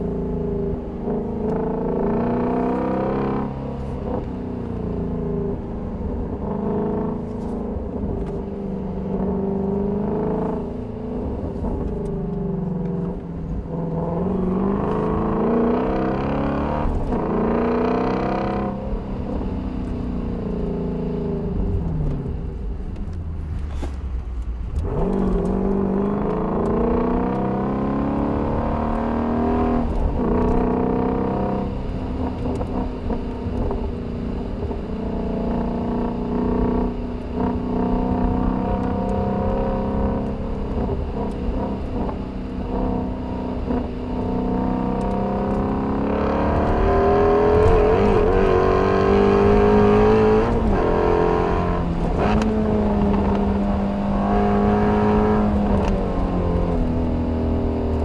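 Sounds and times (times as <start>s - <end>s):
car engine revving while driving: 0.0s - 58.0s.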